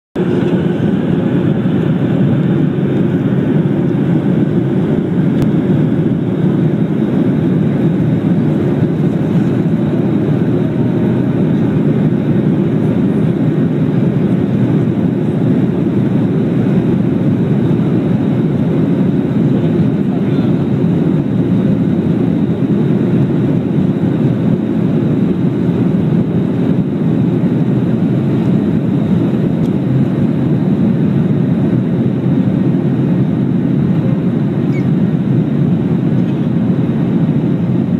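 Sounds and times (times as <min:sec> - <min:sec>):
jet engines deep rumble: 0:00.2 - 0:37.9.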